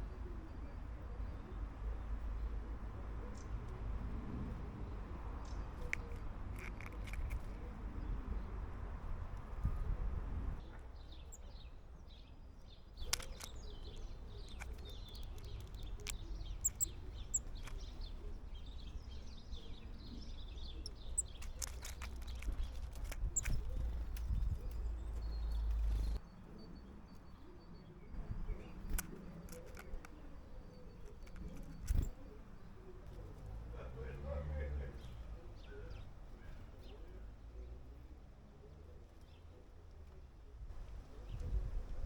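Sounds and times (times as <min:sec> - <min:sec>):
small birds chirping and twittering: 0:00.0 - 0:42.0.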